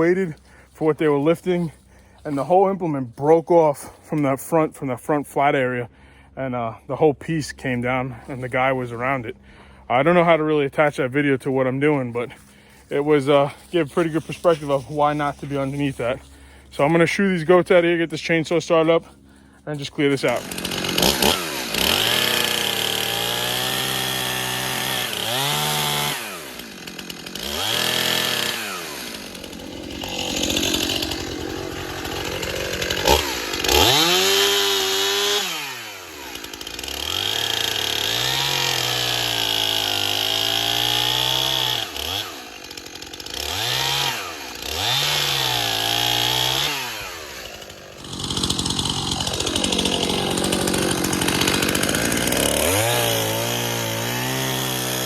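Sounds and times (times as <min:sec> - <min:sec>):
chainsaw revving and idling: 0:00.0 - 0:04.4, 0:07.5 - 0:55.0.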